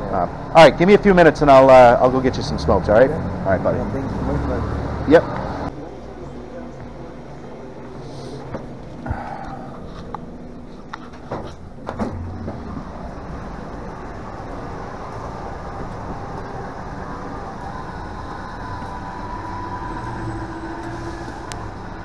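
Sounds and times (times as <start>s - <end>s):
heavy vehicle engine hum: 0.0s - 22.0s
passing vehicles rumble: 0.0s - 22.0s.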